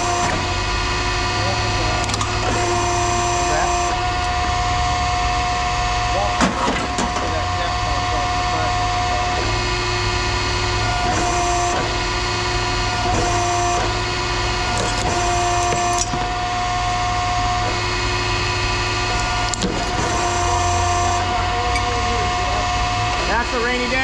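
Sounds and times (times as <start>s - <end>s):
machinery whine and hum: 0.0s - 24.0s.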